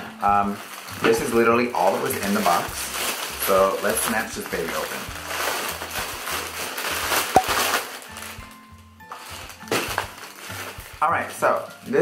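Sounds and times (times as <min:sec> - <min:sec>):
background music: 0:00.0 - 0:12.0
packaging crinkling and rustling: 0:00.3 - 0:12.0.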